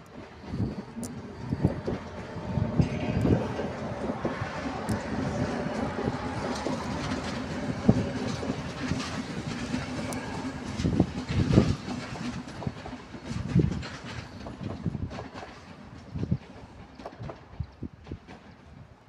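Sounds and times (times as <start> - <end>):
train wheels clattering over rails: 0.0 - 19.0.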